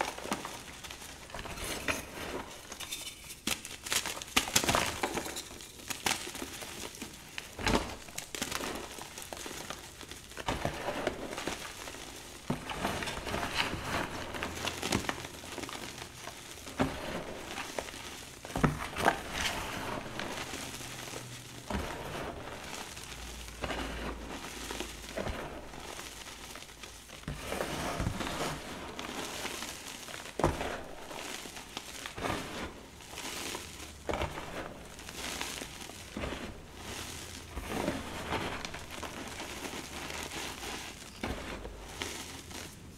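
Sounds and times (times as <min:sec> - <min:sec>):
chalk crunching and crackling: 0:00.0 - 0:42.9.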